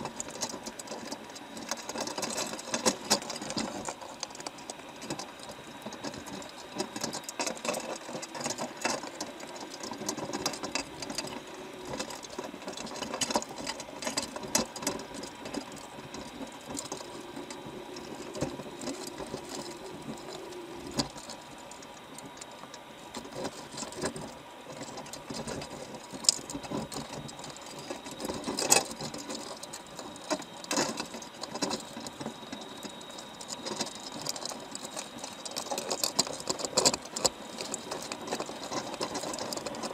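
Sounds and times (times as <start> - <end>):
faint steady whine: 0.0 - 39.9
underwater clicking and crackling: 0.0 - 39.9.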